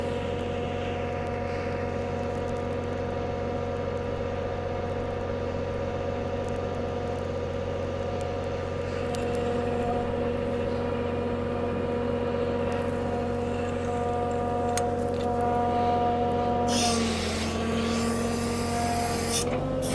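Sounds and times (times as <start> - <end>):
heavy vehicle engine running: 0.0 - 19.9.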